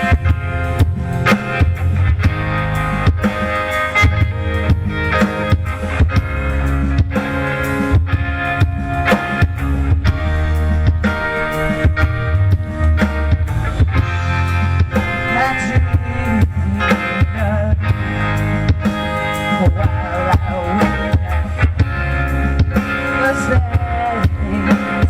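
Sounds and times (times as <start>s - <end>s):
bass line: 0.0s - 25.0s
drum kit steady beat: 0.0s - 25.0s
guitar chords: 0.0s - 25.0s.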